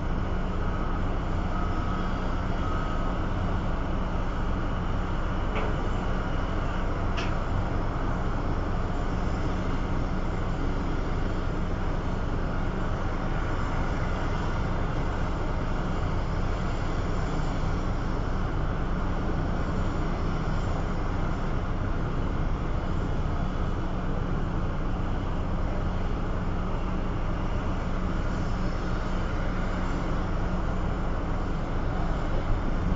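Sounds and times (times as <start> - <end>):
diesel engine running steadily: 0.0 - 32.9.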